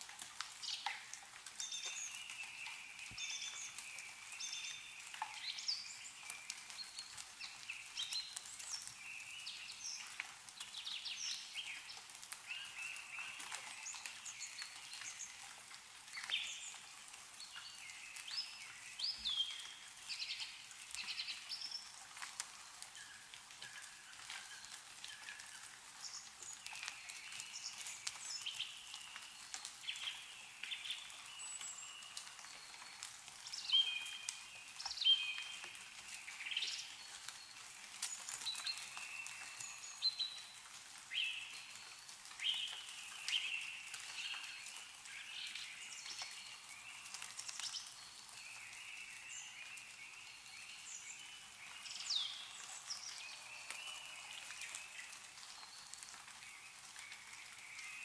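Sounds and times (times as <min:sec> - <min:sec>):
small songbirds chirping: 0:00.4 - 0:58.0.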